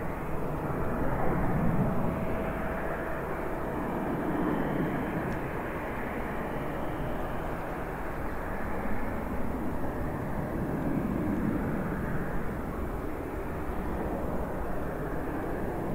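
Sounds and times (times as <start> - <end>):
jet airliner noise: 0.0 - 15.9.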